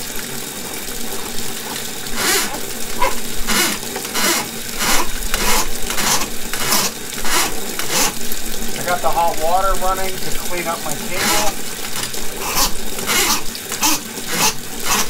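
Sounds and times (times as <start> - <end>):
drain gurgling: 0.0 - 15.0
tap water pouring into tub: 0.0 - 15.0.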